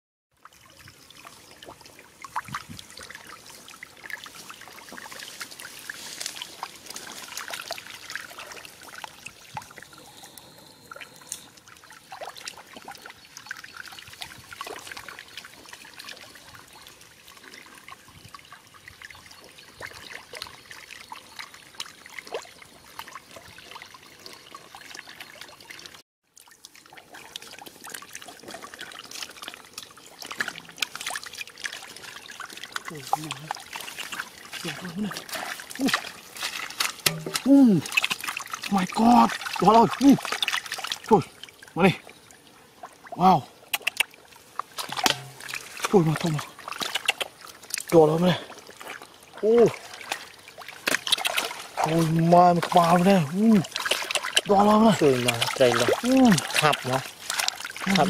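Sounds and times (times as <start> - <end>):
water trickling: 0.4 - 58.0
fish thrashing and splashing: 0.8 - 18.1, 19.4 - 58.0.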